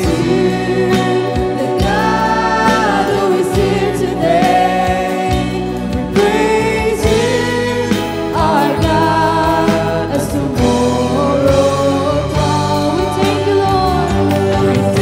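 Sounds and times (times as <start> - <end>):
acoustic guitar: 0.0 - 15.0
bass guitar: 0.0 - 15.0
electric guitars: 0.0 - 15.0
people singing amplified: 0.0 - 15.0
steady drum beat: 0.0 - 15.0.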